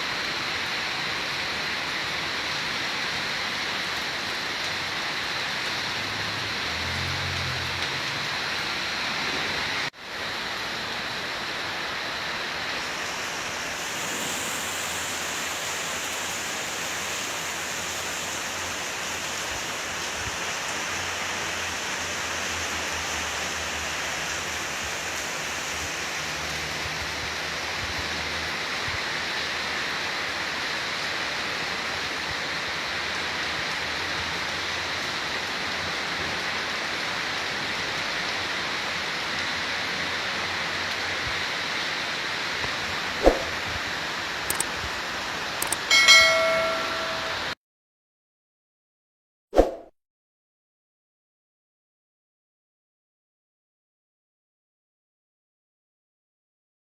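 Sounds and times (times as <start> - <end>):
heavy rain: 0.0 - 47.6.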